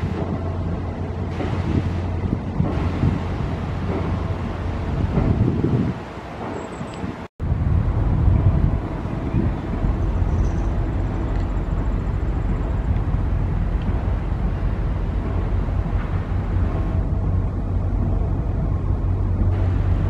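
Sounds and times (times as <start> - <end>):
passenger train rumbling past: 0.0 - 20.0.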